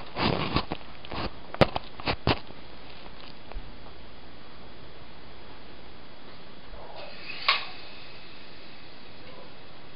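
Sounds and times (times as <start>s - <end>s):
faint low hum: 0.0s - 9.9s
steady hiss: 0.0s - 9.9s.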